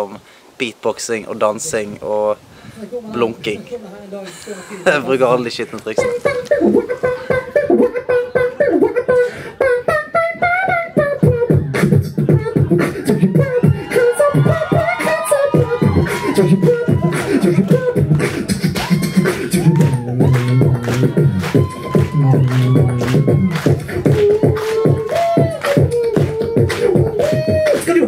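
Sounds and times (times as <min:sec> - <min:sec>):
man beatboxing: 0:04.8 - 0:28.0.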